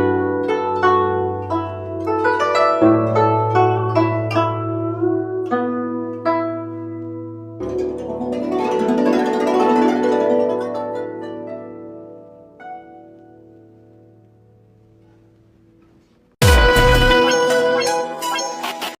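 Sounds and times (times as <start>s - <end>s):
plucked zither notes: 0.0s - 19.0s.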